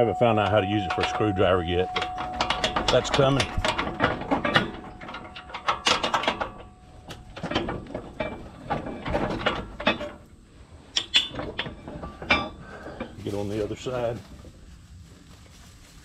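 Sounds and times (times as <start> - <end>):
metal knocks and clanks: 0.0 - 14.2.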